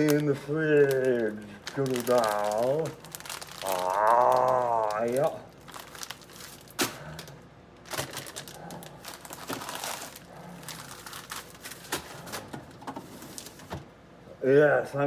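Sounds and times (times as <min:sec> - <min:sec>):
food packaging crinkling: 0:00.0 - 0:13.8.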